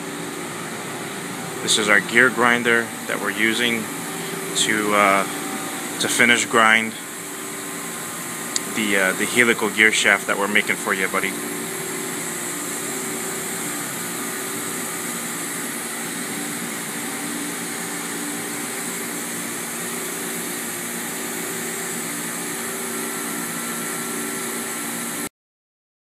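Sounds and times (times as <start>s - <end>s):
grinding machine humming: 0.0s - 25.3s.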